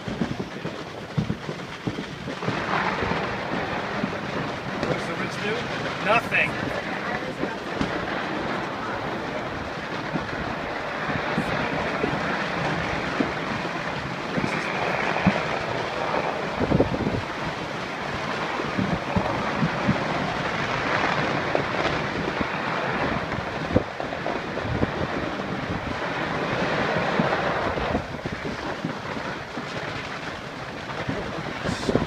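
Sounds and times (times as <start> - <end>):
distant fireworks bangs and pops: 0.0 - 32.0
steady rushing noise: 0.0 - 32.0.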